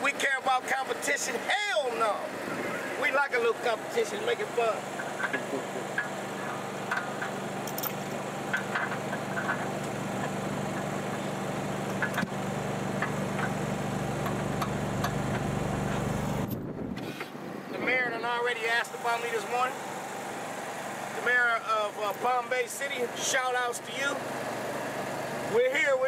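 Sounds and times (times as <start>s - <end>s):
engine idling: 0.0s - 16.7s, 17.8s - 26.0s.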